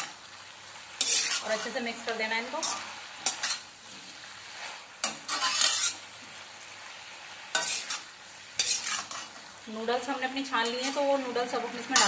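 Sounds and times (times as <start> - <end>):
frying sizzle: 0.0 - 12.0
spatula scraping metal wok: 0.9 - 6.2, 7.4 - 12.0.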